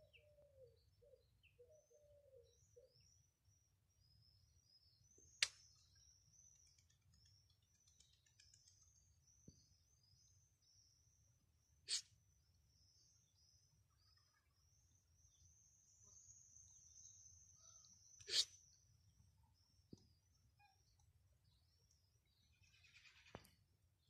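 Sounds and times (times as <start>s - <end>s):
small birds chirping: 0.0s - 23.7s.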